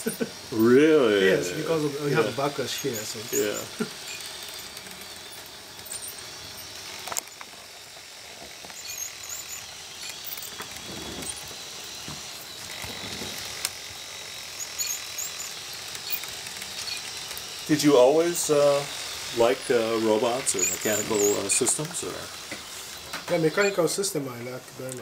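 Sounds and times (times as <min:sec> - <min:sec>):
robot motors whirring: 0:00.0 - 0:25.0.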